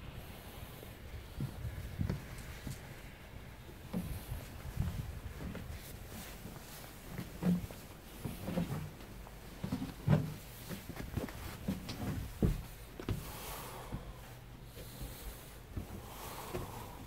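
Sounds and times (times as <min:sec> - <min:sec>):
footsteps on boat deck: 0:00.8 - 0:17.0.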